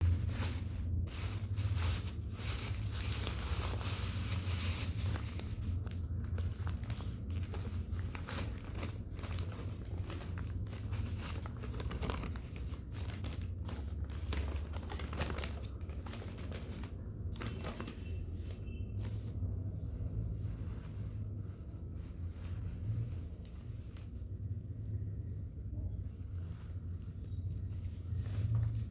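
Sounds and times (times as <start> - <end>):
crinkling and rustling: 0.0 - 28.9.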